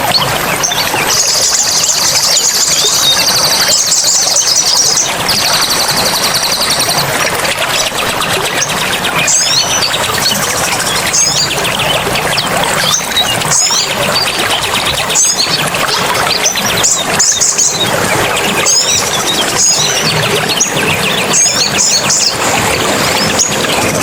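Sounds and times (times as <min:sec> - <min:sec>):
high buzzing bird trill: 0:00.0 - 0:07.3, 0:08.5 - 0:24.0
running water: 0:00.0 - 0:24.0.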